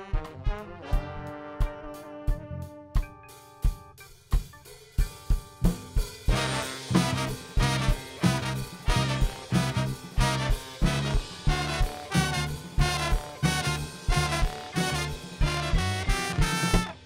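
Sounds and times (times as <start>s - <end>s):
horn band playing a riff: 0.0s - 3.5s, 6.2s - 17.0s
drum kit: 0.0s - 17.0s.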